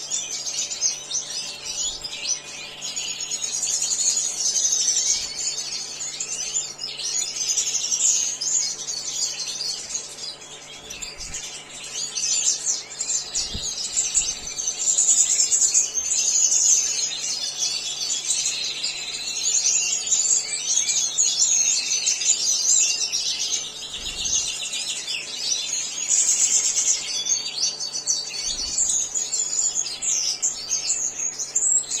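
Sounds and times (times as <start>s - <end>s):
finches twittering and singing: 0.0s - 32.0s.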